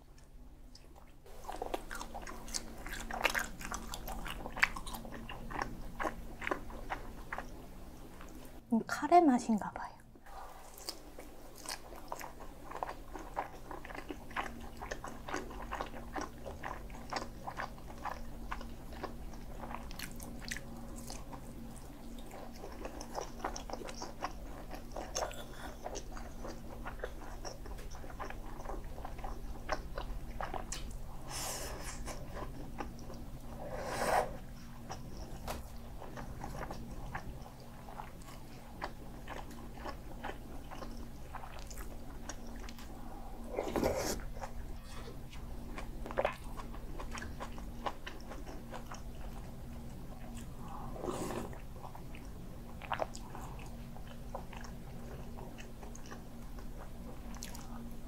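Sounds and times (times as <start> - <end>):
chewing and biting: 0.7 - 7.6, 10.4 - 31.0, 34.4 - 57.9.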